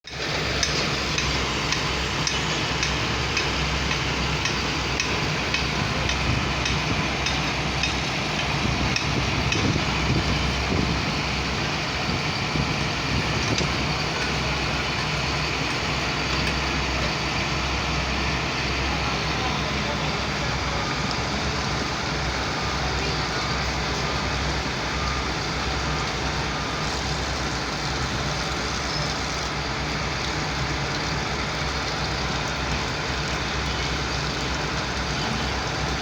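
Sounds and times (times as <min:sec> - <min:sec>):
construction machinery engine running: 0:00.1 - 0:36.0.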